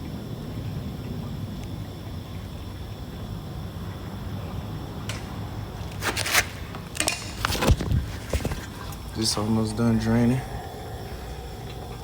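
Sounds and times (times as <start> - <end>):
low background rumble: 0.0 - 6.0, 6.6 - 12.0.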